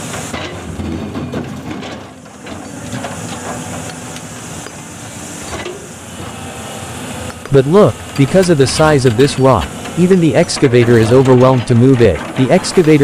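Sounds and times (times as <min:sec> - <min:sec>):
excavator diesel engine straining: 0:00.0 - 0:13.0.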